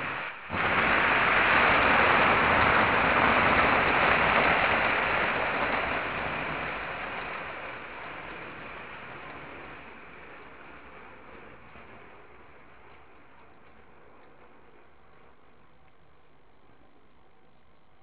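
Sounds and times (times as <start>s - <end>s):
rocket engine roar: 0.0s - 15.3s.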